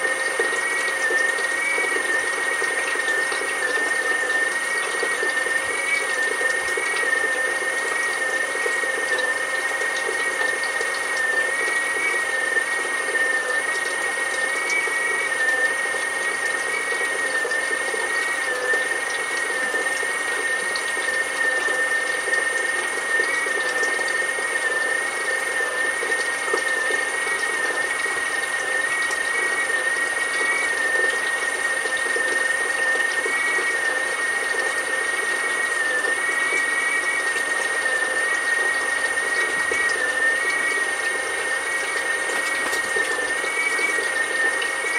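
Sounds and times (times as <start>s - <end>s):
oil pump motor whining: 0.0s - 44.9s.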